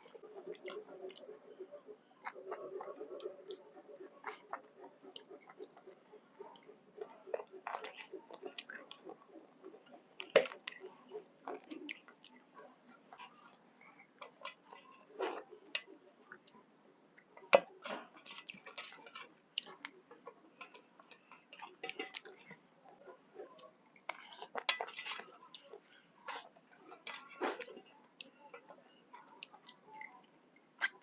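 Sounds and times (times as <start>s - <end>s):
chewing and mouth smacks: 2.2s - 16.6s, 18.1s - 30.2s.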